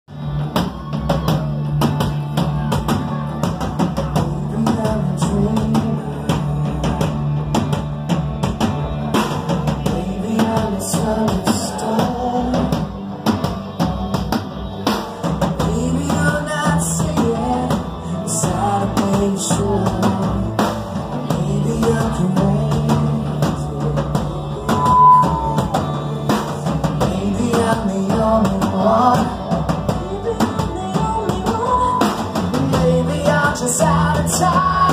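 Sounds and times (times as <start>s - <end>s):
bass guitar: 0.0s - 34.9s
drum kit: 0.1s - 34.9s
electric guitar: 0.1s - 34.9s
man singing: 2.6s - 7.8s, 9.8s - 13.8s, 15.6s - 34.9s.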